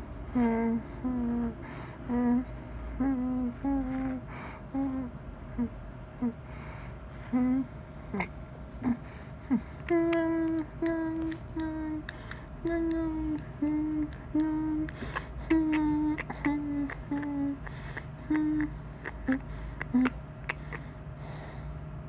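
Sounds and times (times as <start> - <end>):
person humming a slow tune: 0.0 - 6.5, 7.2 - 21.5
steady low hum: 0.0 - 22.0.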